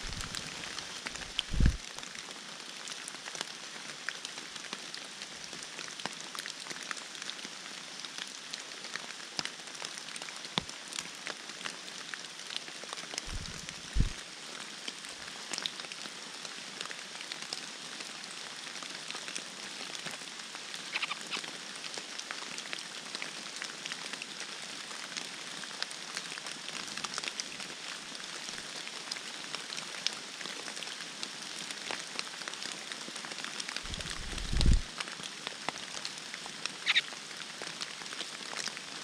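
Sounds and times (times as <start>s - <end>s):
rain pattering on foliage: 0.0s - 39.0s.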